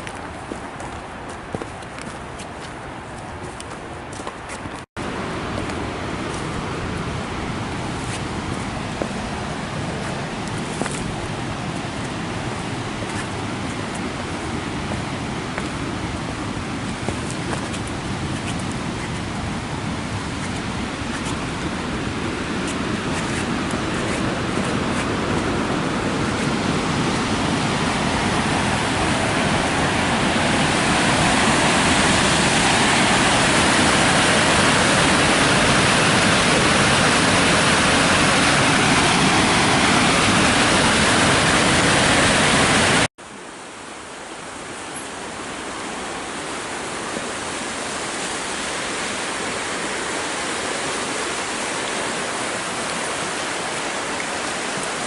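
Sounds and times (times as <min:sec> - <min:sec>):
waterfall rushing: 0:05.0 - 0:55.0.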